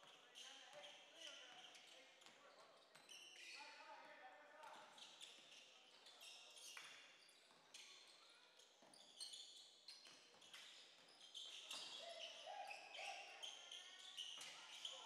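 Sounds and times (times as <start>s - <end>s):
sneakers squeaking: 0.0s - 3.7s, 4.7s - 15.0s.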